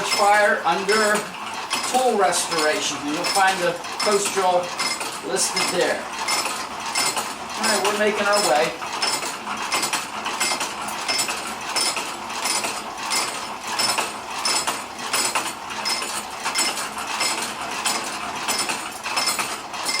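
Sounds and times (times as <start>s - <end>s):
hand-cranked drill gears clinking: 0.0s - 20.0s.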